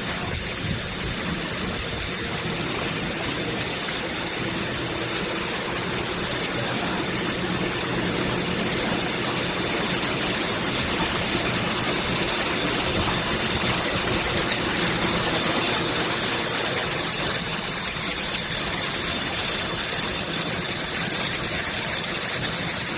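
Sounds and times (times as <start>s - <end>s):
low mechanical hum: 0.0s - 22.9s
packing machine running: 0.0s - 22.9s.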